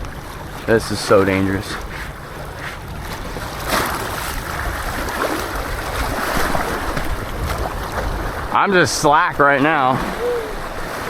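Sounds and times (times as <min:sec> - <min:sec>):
waves washing: 0:00.0 - 0:11.0
wind buffeting microphone: 0:00.0 - 0:11.0.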